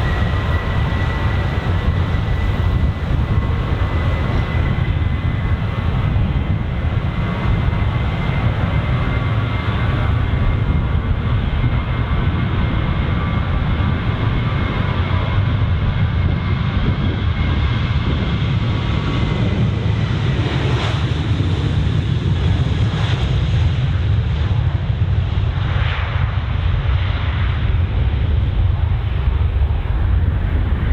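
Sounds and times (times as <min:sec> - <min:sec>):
jet engine roar with whine: 0:00.0 - 0:30.9.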